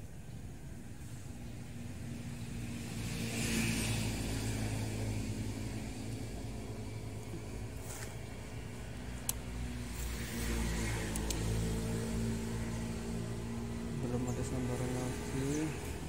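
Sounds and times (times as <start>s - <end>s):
vehicle passing on road: 1.0s - 16.0s.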